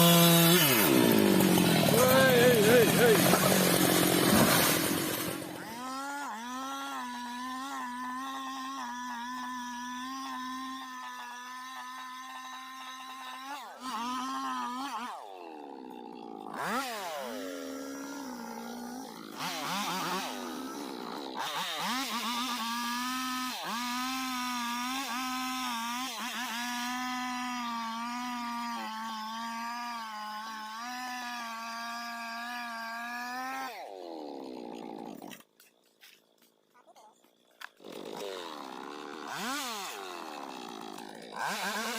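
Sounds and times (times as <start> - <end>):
chainsaw running at high revs: 0.0 - 41.9.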